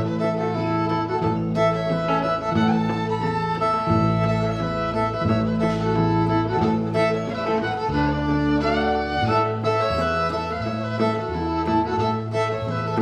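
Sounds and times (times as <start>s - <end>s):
fiddle bowing melody: 0.0s - 13.0s
guitar accompaniment: 0.0s - 13.0s
plucked double bass: 0.0s - 13.0s.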